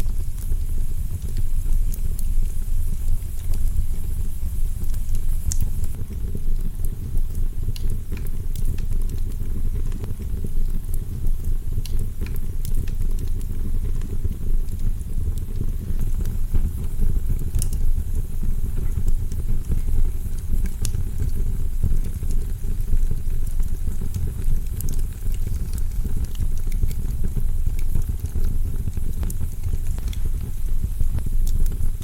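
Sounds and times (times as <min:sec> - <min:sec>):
fire crackling and popping: 0:00.0 - 0:32.0
fire low rumble: 0:00.0 - 0:32.0.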